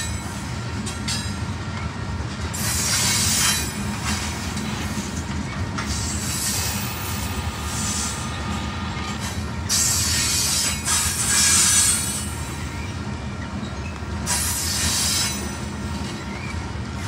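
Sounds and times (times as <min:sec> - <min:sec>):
train rolling past rumble: 0:00.0 - 0:17.0.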